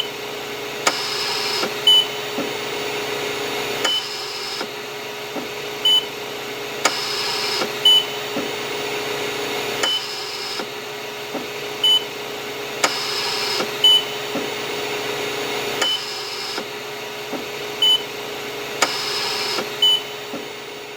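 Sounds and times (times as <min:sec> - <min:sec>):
ventilator breathing cycle: 0:00.0 - 0:20.9
ventilator machine hum: 0:00.0 - 0:20.9.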